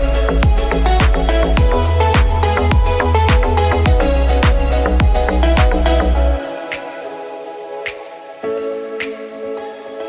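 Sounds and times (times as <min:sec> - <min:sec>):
soft electronic music: 0:00.0 - 0:10.0.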